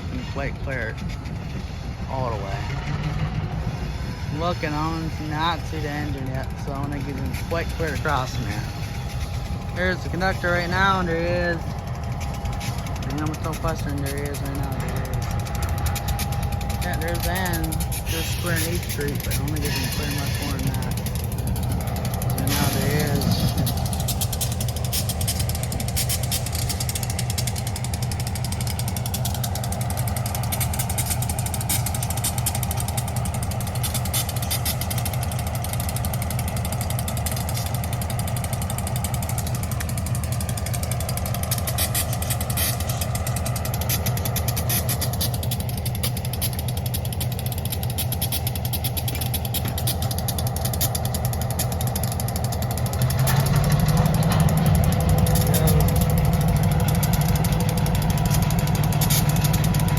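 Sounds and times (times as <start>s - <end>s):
engine running with low throb: 0.0s - 59.9s.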